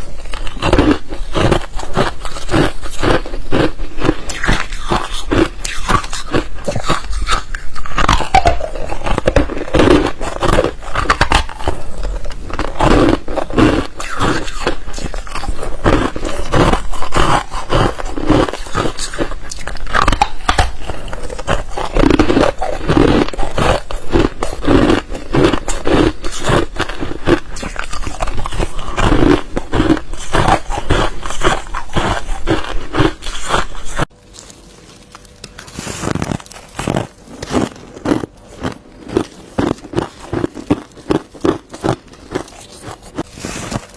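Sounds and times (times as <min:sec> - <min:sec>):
ice crunching being chewed: 0:00.0 - 0:43.9.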